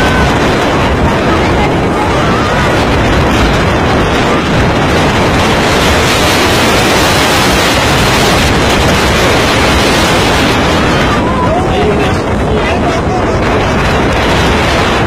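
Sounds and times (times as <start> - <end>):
rough sea: 0.0 - 15.0
strong wind buffeting microphone: 0.0 - 15.0.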